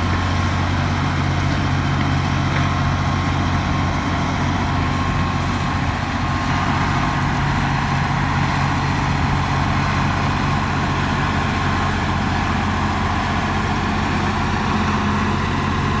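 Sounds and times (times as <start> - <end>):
bulldozer diesel engine rumble: 0.0 - 16.0.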